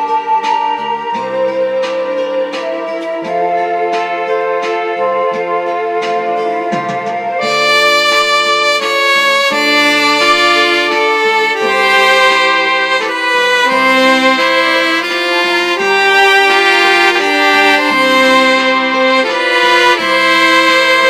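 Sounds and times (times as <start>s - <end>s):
digital wind instrument duet: 0.0s - 21.0s.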